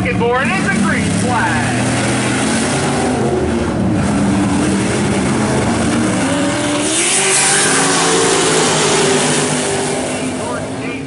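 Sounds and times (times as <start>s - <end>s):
race truck engines passing: 0.0s - 11.0s.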